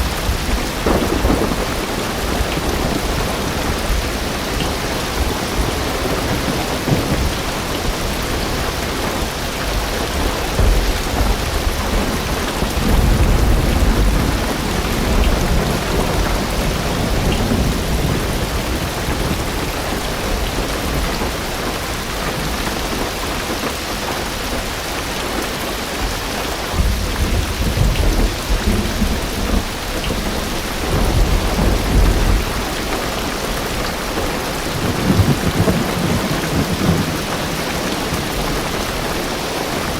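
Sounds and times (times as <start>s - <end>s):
thunder rumbling: 0.0s - 23.2s, 26.0s - 39.9s
heavy rain on car roof: 0.0s - 39.9s.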